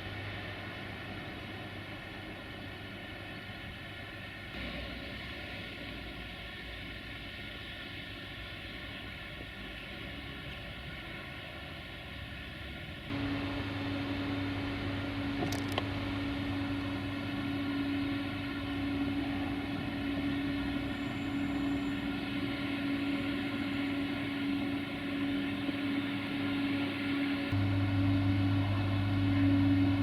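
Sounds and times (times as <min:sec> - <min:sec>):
cooling fans: 0:00.0 - 0:30.0
electric locomotive humming: 0:00.0 - 0:30.0.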